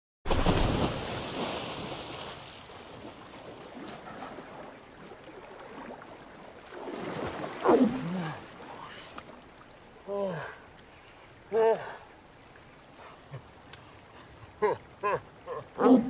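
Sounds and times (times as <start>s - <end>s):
river water splashing: 0.3s - 16.0s.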